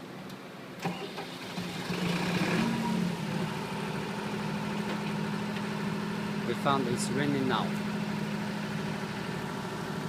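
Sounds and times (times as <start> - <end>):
diesel generator running: 0.6 - 10.0.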